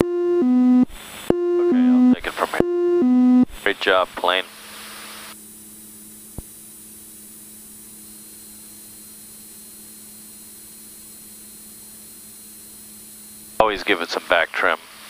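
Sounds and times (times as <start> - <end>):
airplane engine drone: 0.2 - 15.0.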